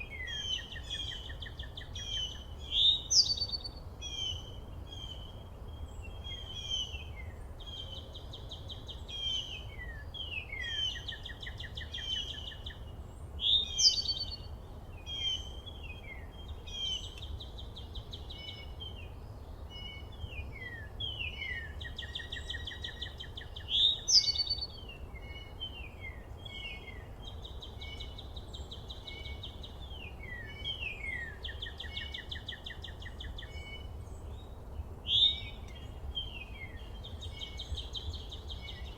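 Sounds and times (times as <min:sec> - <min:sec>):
songbirds calling and trilling: 0:00.0 - 0:38.9.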